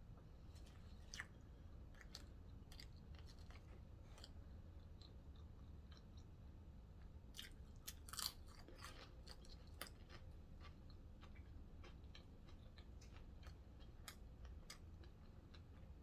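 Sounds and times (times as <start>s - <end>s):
chewing sandwich crunches: 0.6s - 6.3s, 7.3s - 16.0s.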